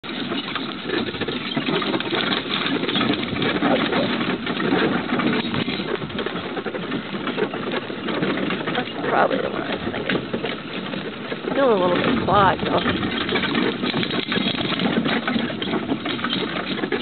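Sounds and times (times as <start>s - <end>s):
carriage wheels and harness rattling: 0.0s - 17.0s
hoofbeats: 0.0s - 17.0s.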